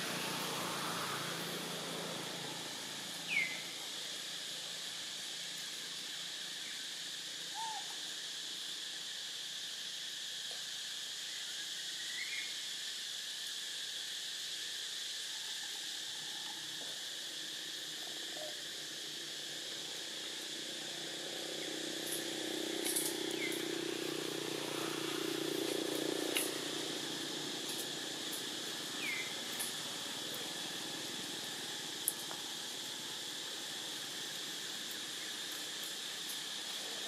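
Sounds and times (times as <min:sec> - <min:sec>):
insect drone: 0:00.0 - 0:37.0.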